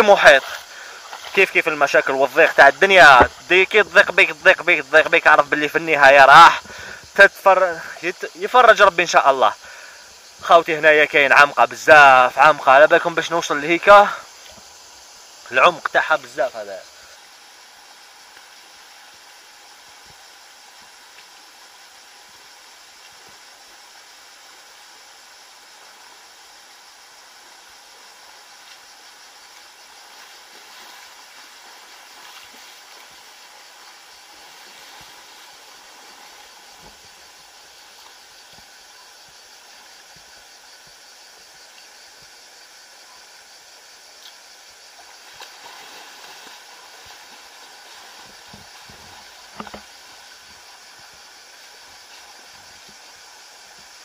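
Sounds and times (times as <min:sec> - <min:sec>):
river rushing over stones: 0:00.0 - 0:09.6, 0:10.3 - 0:54.0.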